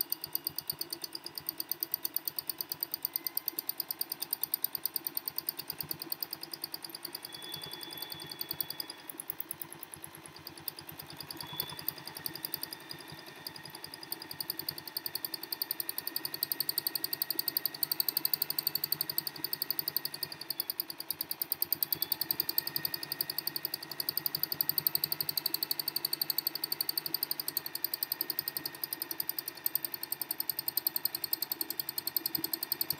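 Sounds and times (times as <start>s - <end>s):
sewing machine needle chatter: 0.0s - 32.9s.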